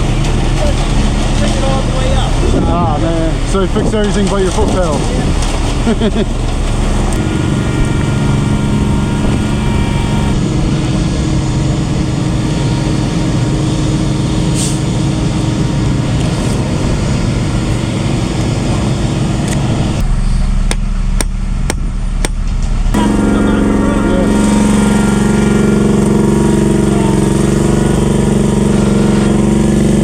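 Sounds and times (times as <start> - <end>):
diesel construction machinery running: 0.0 - 30.0.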